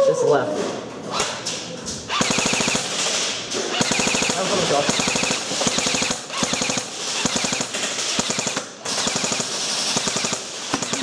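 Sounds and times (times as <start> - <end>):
airsoft guns automatic fire: 2.1 - 11.0.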